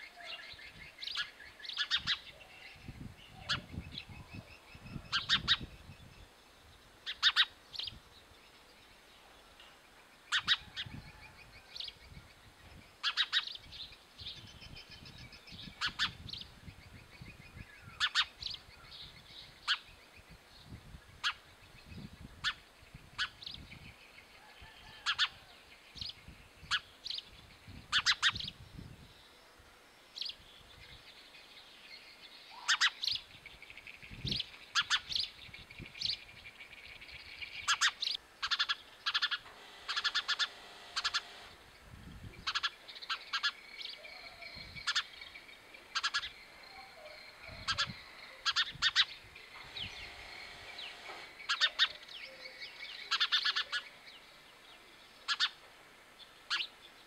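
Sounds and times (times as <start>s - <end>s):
sparrow chirping: 0.0s - 9.2s, 10.2s - 24.0s, 25.0s - 29.4s, 30.1s - 55.6s, 56.2s - 57.0s.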